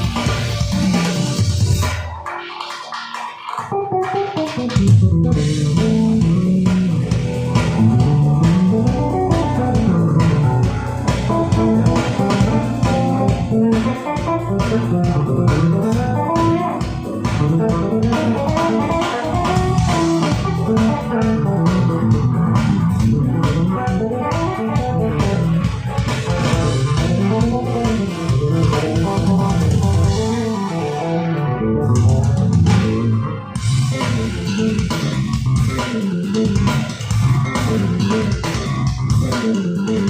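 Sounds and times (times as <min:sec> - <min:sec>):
instrumental band music: 0:00.0 - 0:40.0.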